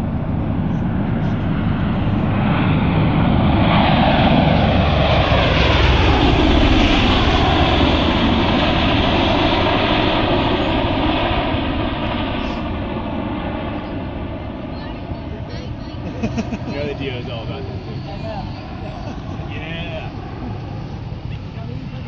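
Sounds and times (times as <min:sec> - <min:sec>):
tiltrotor aircraft flying overhead: 0:00.0 - 0:22.0.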